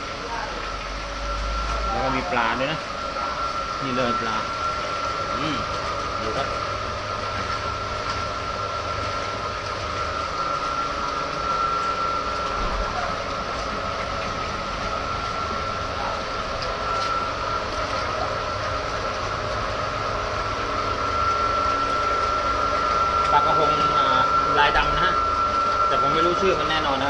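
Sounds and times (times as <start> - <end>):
machine drone with high whine: 0.0 - 27.0
water churning in tank: 0.0 - 27.0.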